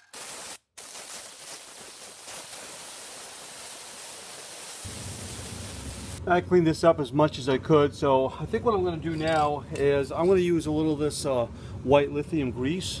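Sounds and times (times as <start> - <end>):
steady background hiss: 2.3 - 13.0.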